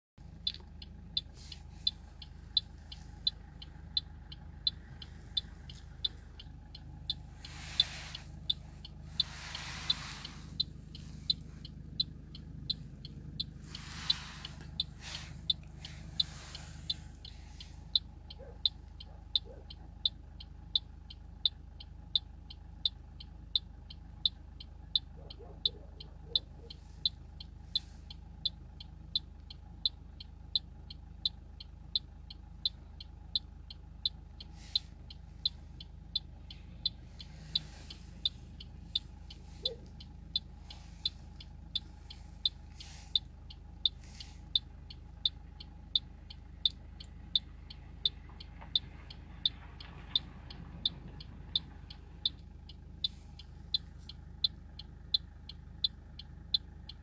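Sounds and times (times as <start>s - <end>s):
car indicator ticking: 0.2s - 57.0s.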